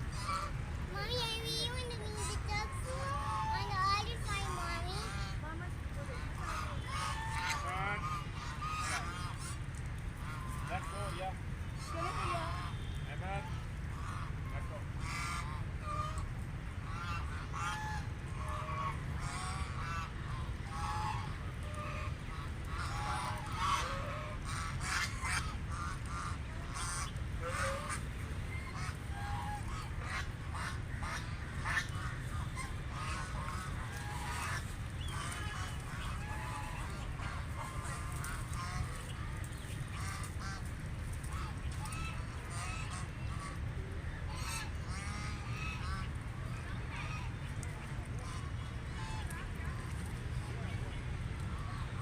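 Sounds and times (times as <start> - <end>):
ducks quacking: 0.0 - 52.0
steady low rumble: 0.0 - 52.0.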